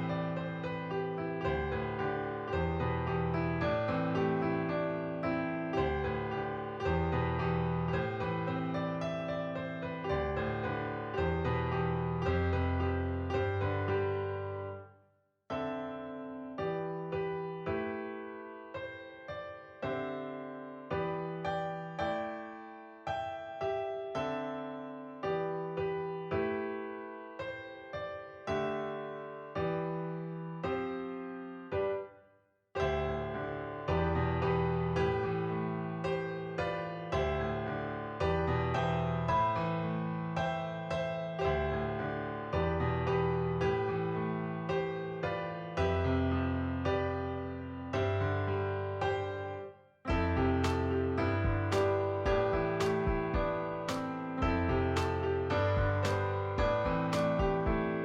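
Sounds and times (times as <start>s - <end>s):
piano background music: 0.0s - 58.0s.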